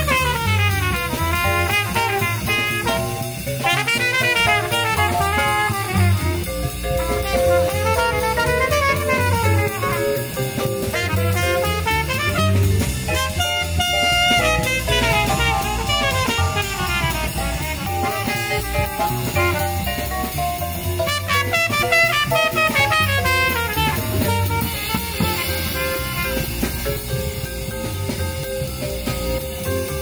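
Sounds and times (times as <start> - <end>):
drum kit with cymbals: 0.0 - 30.0
trumpet melody: 0.0 - 30.0
upright bass: 0.0 - 30.0.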